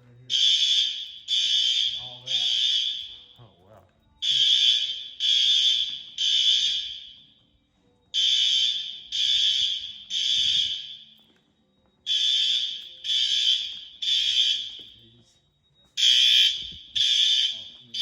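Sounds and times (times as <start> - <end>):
fire alarm bell ringing: 0.0 - 18.0.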